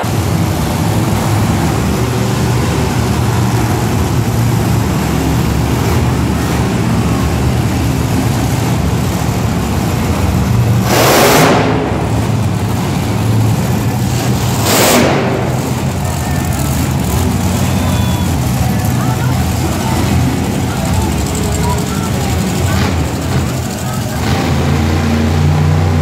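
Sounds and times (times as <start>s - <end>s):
truck engines rumbling and revving: 0.0s - 26.0s.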